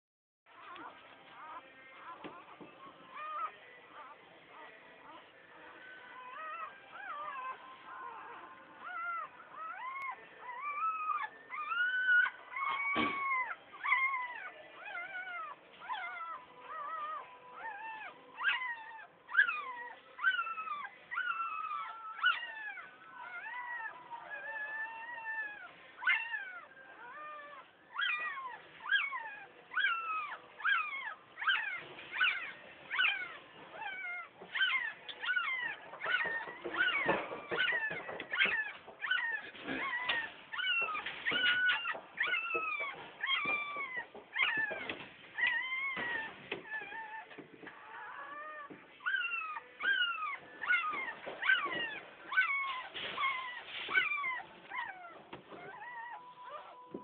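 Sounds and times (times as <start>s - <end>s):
puppies squealing and crying: 0.5s - 57.0s.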